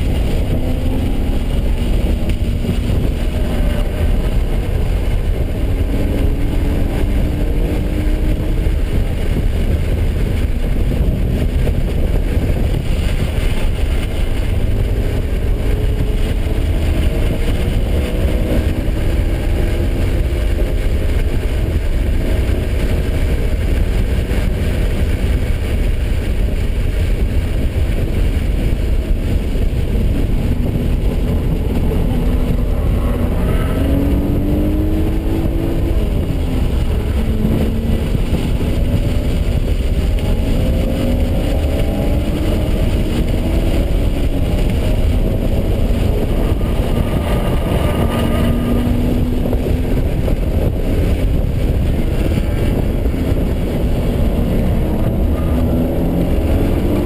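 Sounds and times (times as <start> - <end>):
car engine revving hard: 0.0 - 57.0
road and wind noise: 0.0 - 57.0.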